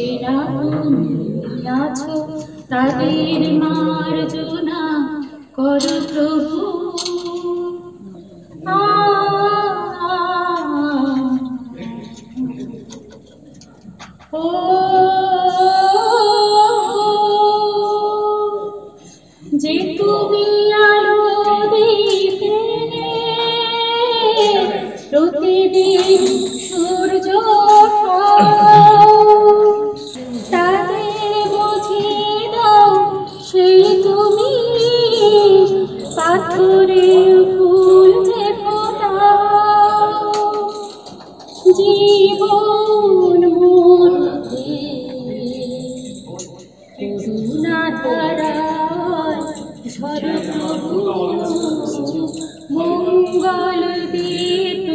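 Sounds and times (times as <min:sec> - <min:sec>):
woman singing: 0:00.0 - 0:08.0, 0:08.6 - 0:12.7, 0:14.2 - 0:54.9.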